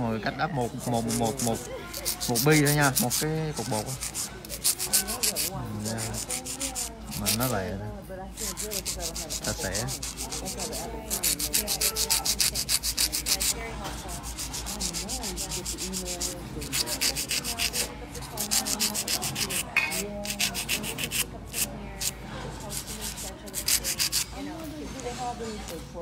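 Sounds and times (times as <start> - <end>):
nail file rasping on fingernail: 0.7 - 7.8, 8.4 - 24.4.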